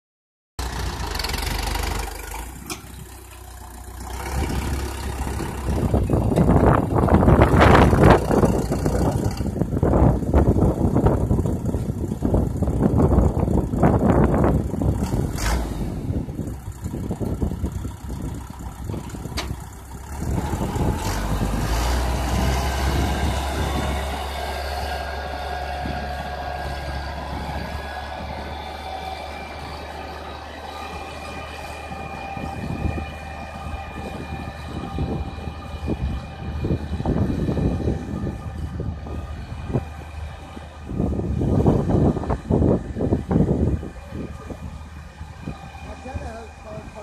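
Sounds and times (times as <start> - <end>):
tractor diesel engine under load: 0.6 - 47.0.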